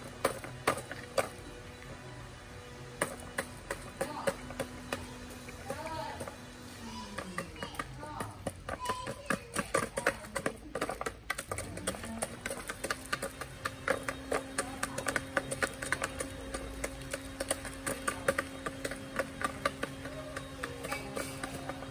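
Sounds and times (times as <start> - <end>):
chickens pecking and tapping: 0.0 - 21.9.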